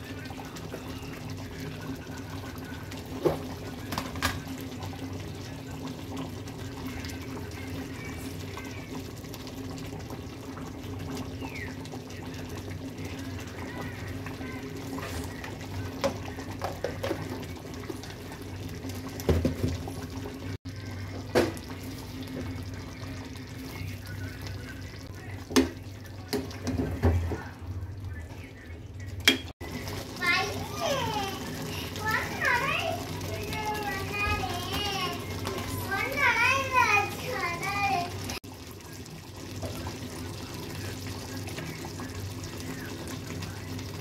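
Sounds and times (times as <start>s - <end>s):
liquid simmering and bubbling: 0.0s - 44.0s.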